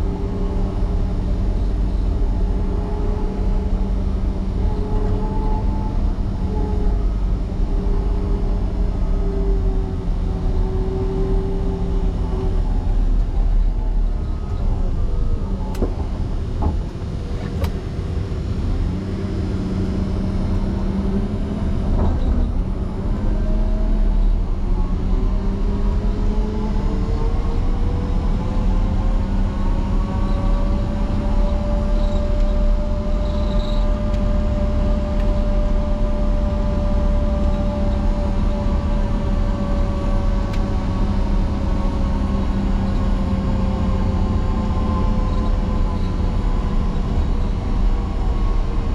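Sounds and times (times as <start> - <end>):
diesel grader engine rumbling: 0.0 - 48.9.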